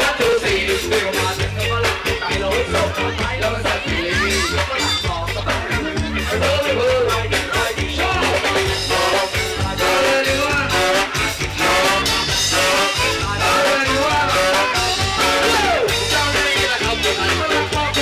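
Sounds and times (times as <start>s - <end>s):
live band with horn section: 0.0s - 18.0s
man singing: 0.0s - 18.0s.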